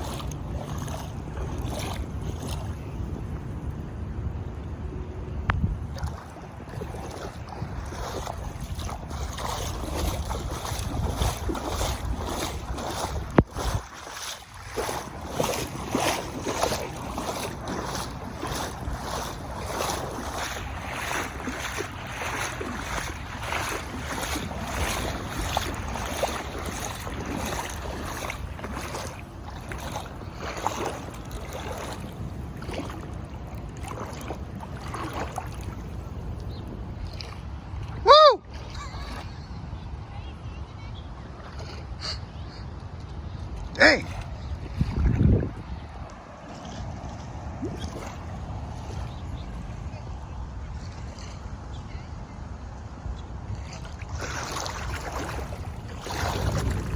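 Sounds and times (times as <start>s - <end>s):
floodwater rushing and splashing: 0.0s - 39.8s, 43.6s - 50.0s, 53.6s - 56.9s
wind buffeting microphone: 0.0s - 40.2s, 43.0s - 52.0s, 52.9s - 56.9s.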